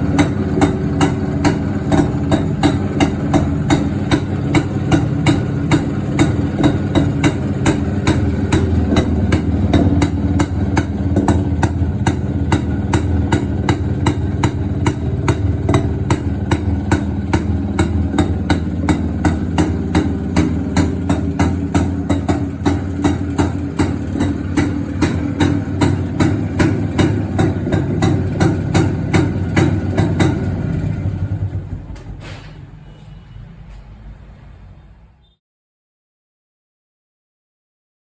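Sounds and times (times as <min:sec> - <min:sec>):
two-stroke engine idling: 0:00.0 - 0:32.3.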